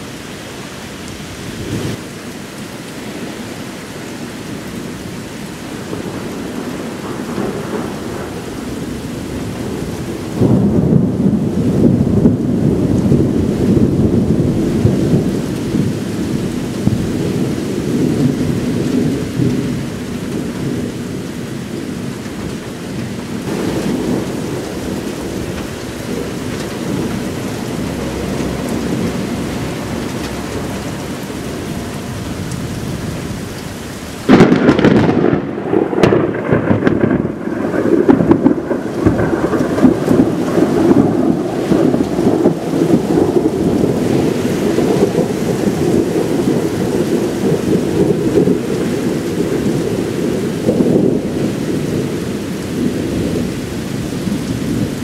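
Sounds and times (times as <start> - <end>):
steady rain: 0.0 - 55.0
thunder rumbling: 5.6 - 55.0
loud thunderclap: 5.9 - 20.9, 23.4 - 33.2, 34.2 - 53.5.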